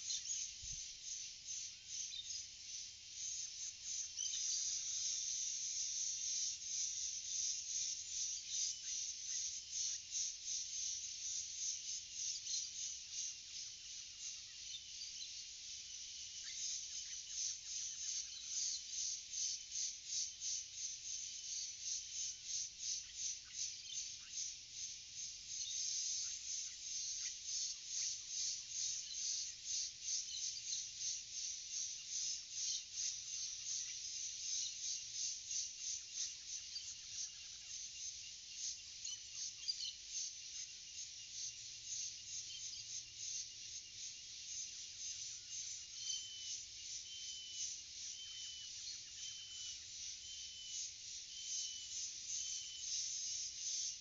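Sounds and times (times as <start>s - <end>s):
insects pulsing buzz: 0.0s - 54.0s.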